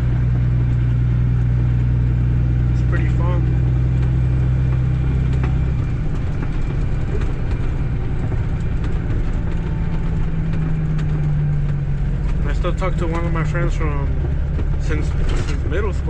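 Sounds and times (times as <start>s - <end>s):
diesel truck engine running: 0.0s - 16.0s
road noise: 0.0s - 16.0s.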